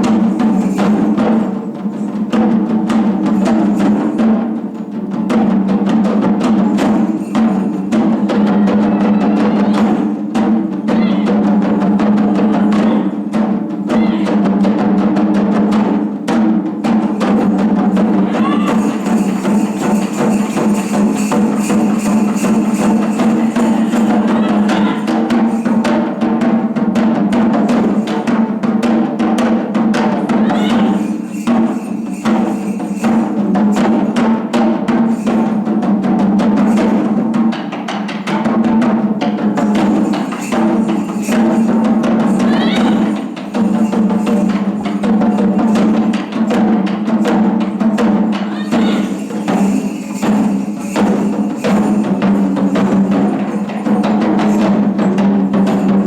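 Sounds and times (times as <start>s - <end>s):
taiko drums rapid strokes: 0.0s - 56.0s.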